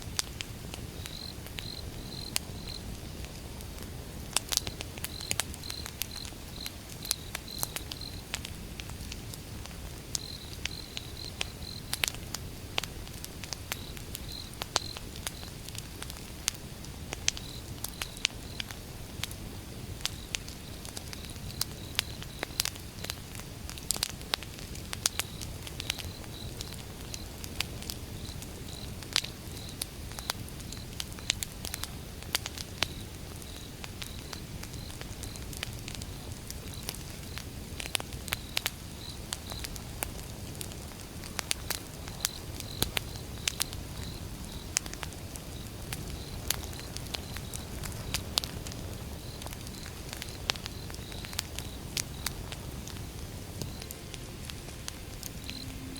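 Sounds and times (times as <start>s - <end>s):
flames low noise: 0.0s - 55.9s
logs crackling and popping: 0.0s - 55.9s.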